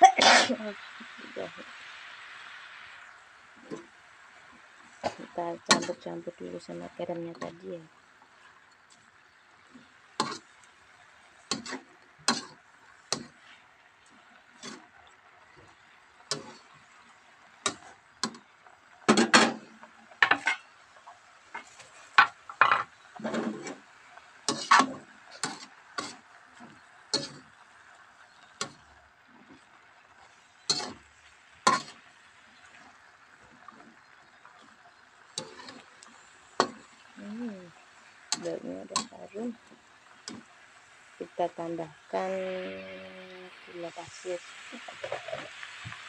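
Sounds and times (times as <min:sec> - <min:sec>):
faint steady hiss: 0:00.0 - 0:46.0
spatula scraping a wok: 0:01.8 - 0:41.2, 0:44.0 - 0:46.0.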